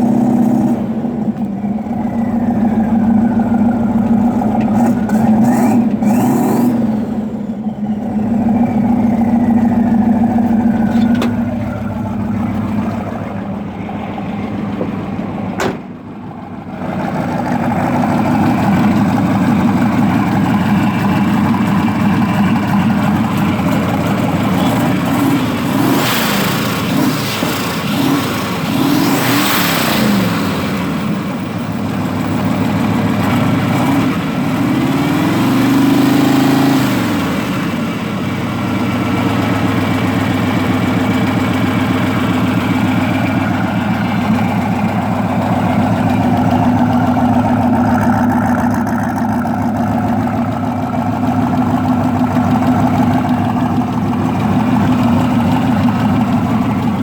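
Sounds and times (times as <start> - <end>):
truck engine idling and revving: 0.0 - 57.0.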